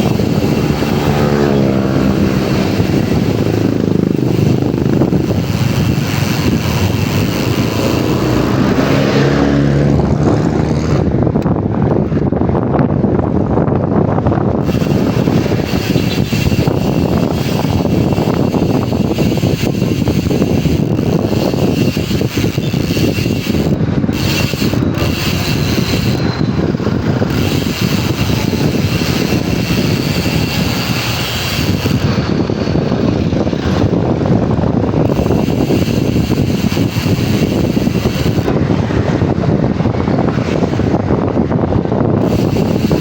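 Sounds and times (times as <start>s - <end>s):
bicycle freehub buzzing: 0.0s - 11.5s, 14.1s - 43.0s
wind and road noise: 0.0s - 43.0s.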